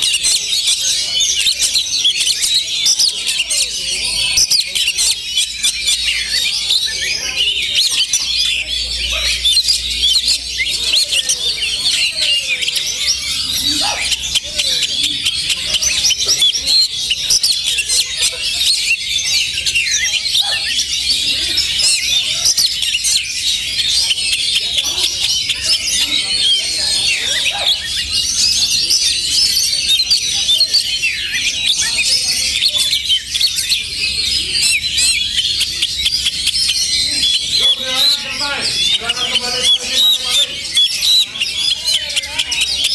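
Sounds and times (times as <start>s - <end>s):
chorus of birds chirping and whistling: 0.0s - 42.9s.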